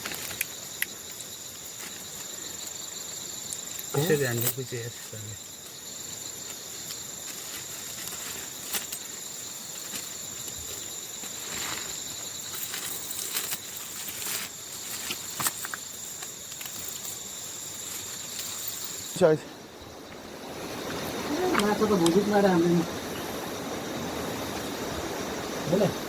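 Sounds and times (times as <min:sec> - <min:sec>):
night insects chirring: 0:00.0 - 0:26.0.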